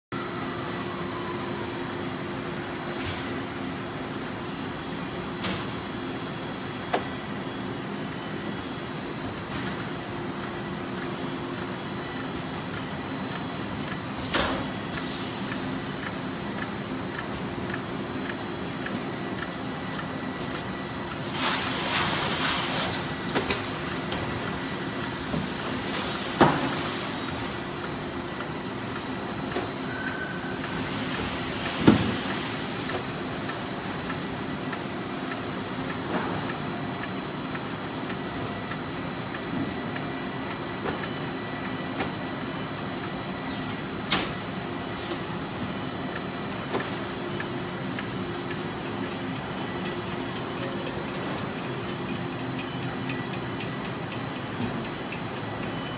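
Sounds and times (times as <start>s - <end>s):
machinery humming: 0.1s - 55.9s.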